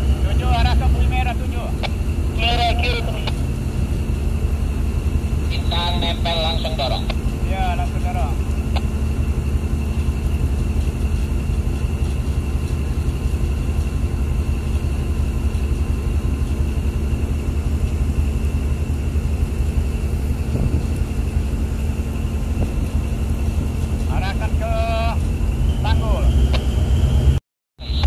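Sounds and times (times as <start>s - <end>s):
boat engine drone: 0.0s - 28.0s
faint high whine: 0.0s - 28.0s.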